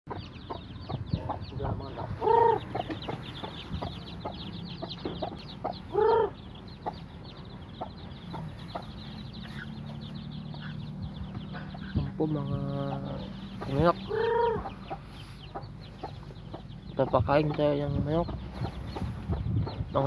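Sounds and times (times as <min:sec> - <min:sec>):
adult chicken calling: 0:00.1 - 0:17.5
chicks peeping: 0:00.1 - 0:20.0.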